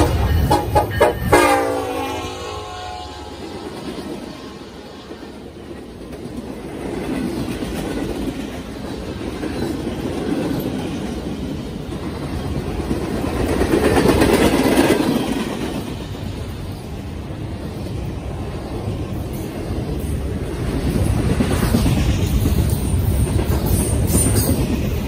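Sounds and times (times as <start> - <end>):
train wheels clacking on rails: 0.0 - 1.9, 3.5 - 25.0.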